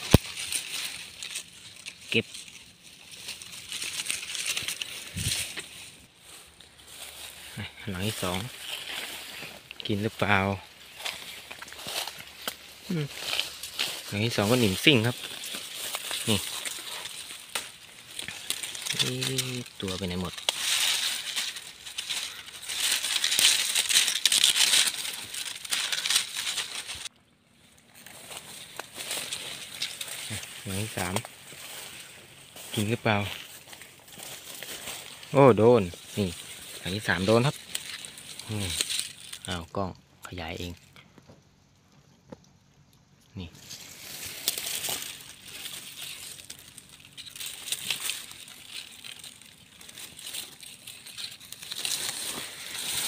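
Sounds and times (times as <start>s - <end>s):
dry grass and leaves crackling: 0.0s - 53.0s.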